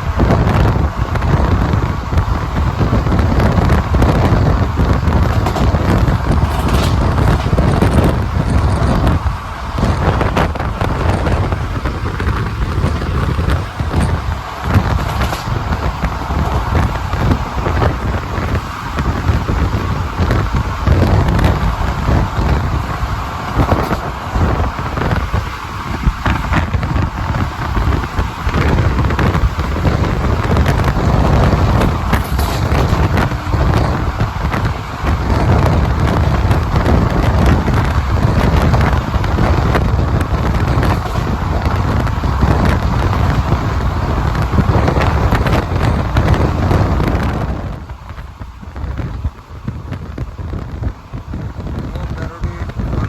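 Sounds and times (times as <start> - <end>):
train wheels rumbling on track: 0.0 - 53.0
wind buffeting microphone: 0.0 - 53.0.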